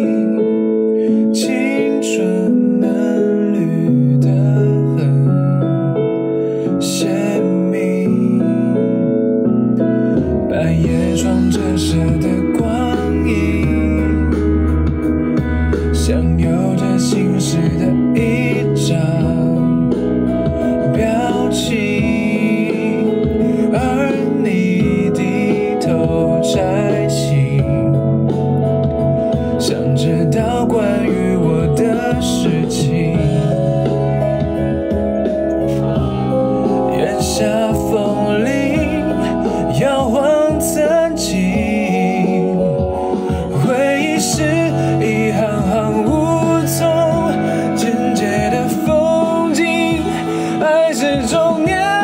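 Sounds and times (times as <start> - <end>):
backing track: 0.0 - 52.0
instrumental accompaniment: 0.0 - 52.0
man singing pop ballad: 0.0 - 52.0.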